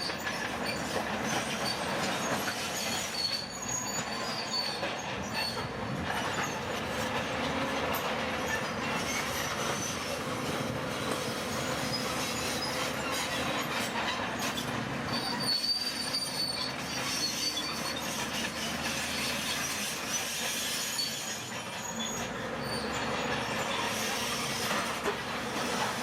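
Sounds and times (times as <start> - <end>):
steel tracks squealing: 0.0 - 26.0.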